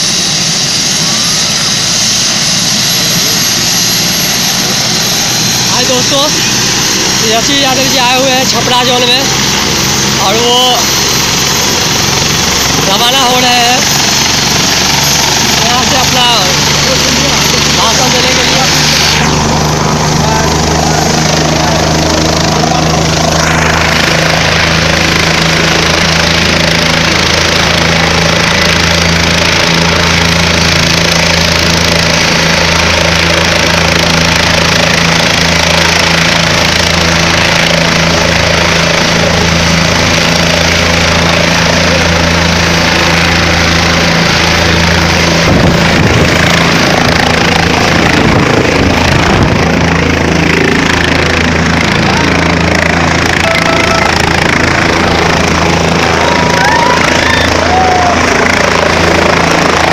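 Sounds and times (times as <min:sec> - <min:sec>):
helicopter engine and rotor drone: 0:00.0 - 0:59.9
rotor downwash buffeting microphone: 0:00.5 - 0:59.9.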